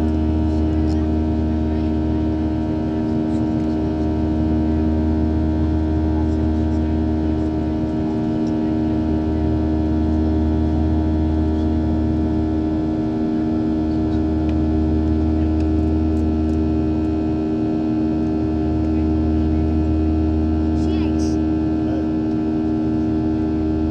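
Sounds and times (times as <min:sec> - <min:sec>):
jet engines droning in cabin: 0:00.0 - 0:23.9.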